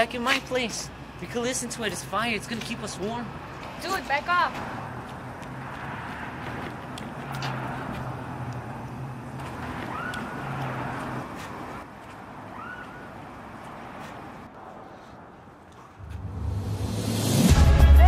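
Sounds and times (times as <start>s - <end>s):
distant traffic hum: 0.0s - 17.4s.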